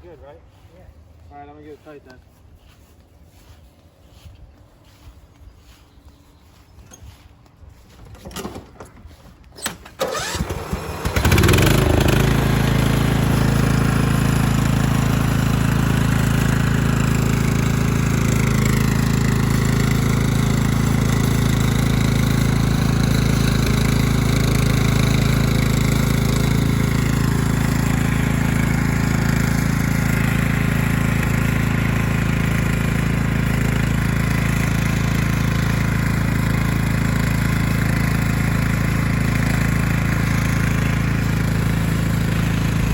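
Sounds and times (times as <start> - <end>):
engine cranking and idling: 8.0 - 42.9.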